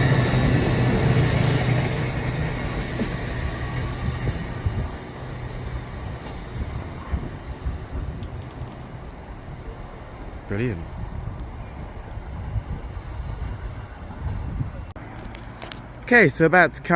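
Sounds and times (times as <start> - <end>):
passenger train pulling away: 0.0 - 14.9.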